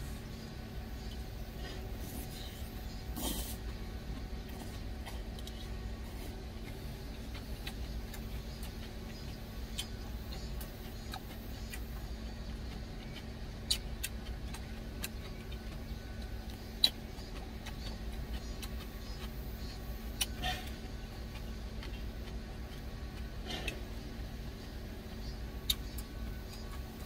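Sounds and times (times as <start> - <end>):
steady low hum: 0.0 - 27.0
chewing: 0.8 - 27.0.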